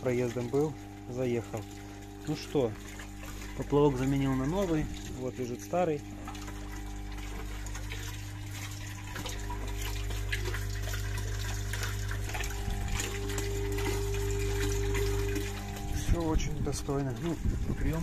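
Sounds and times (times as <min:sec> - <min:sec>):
air compressor hum: 0:00.0 - 0:18.0
water churning and bubbling: 0:00.0 - 0:18.0.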